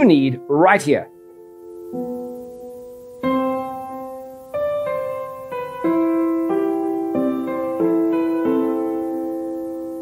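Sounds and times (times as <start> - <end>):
sustained piano chords: 0.0 - 10.0.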